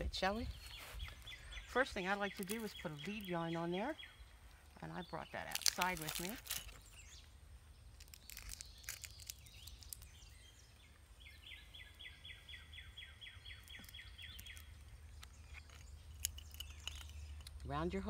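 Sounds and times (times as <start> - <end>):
faint rhythmic chirping call: 0.0 - 18.0.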